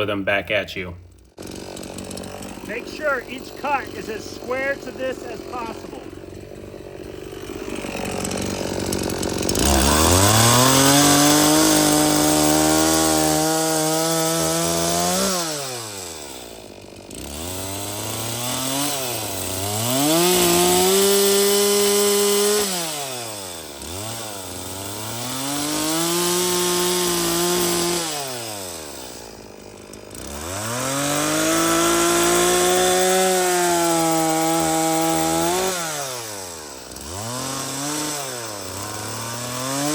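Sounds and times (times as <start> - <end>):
chainsaw cutting wood: 1.0 - 39.9.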